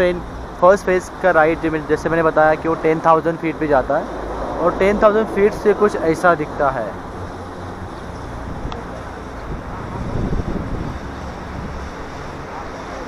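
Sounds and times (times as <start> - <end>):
wind buffeting microphone: 1.5 - 12.7.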